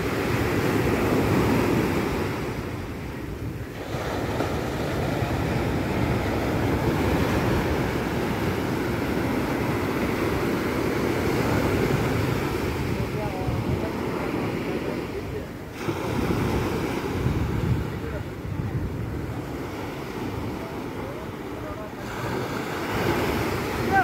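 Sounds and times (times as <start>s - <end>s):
sea waves washing in: 0.0s - 24.0s
wind buffeting microphone: 0.0s - 24.0s.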